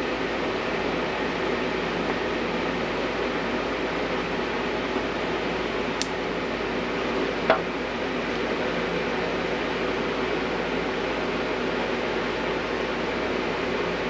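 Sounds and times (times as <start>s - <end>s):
fan whirring: 0.0s - 14.0s.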